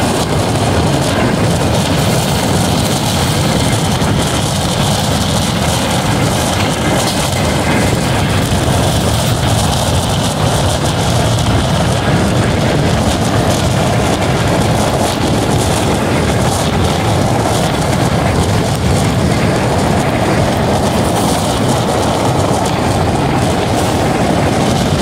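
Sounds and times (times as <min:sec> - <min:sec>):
train running at speed: 0:00.0 - 0:25.0.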